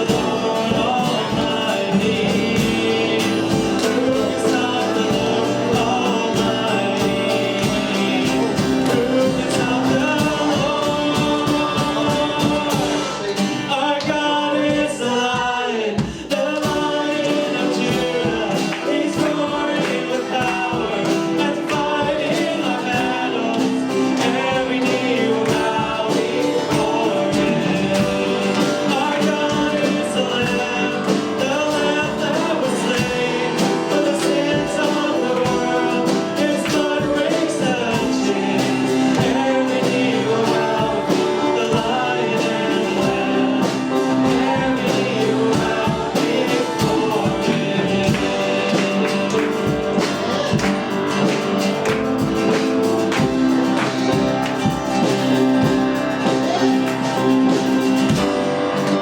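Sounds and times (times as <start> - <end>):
church band worship music: 0.0 - 59.0
people singing: 0.0 - 59.0.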